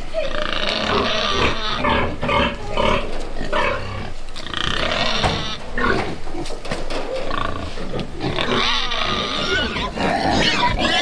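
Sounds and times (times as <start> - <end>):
pigs squealing and grunting: 0.0 - 11.0.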